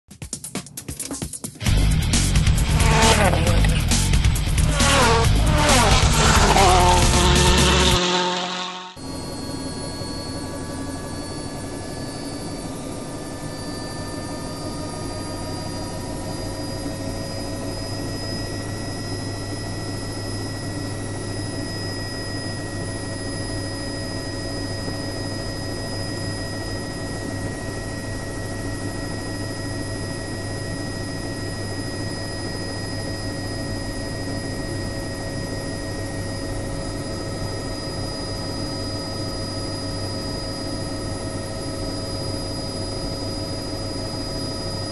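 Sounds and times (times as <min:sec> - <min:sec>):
helicopter rotor drone: 0:01.6 - 0:44.9
helicopter turbine whine: 0:01.6 - 0:44.9.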